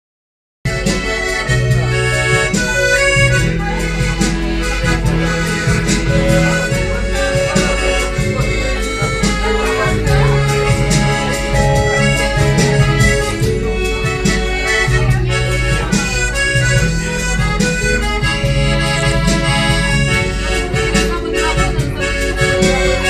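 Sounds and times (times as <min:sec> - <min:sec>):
accordion melody: 0:00.7 - 0:23.0
steady beat: 0:00.7 - 0:23.0
walking bass line: 0:00.7 - 0:23.0.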